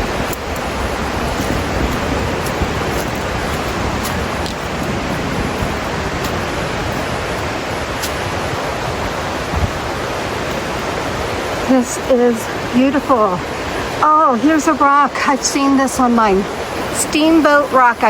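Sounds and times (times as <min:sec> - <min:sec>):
creek rushing over rocks: 0:00.0 - 0:18.0.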